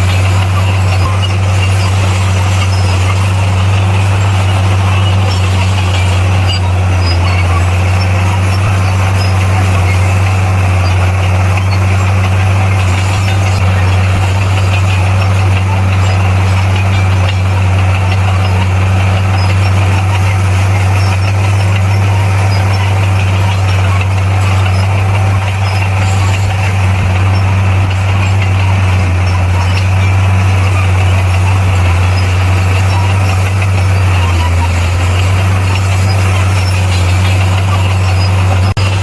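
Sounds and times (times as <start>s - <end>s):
bulldozer diesel engine droning: 0.0s - 39.0s.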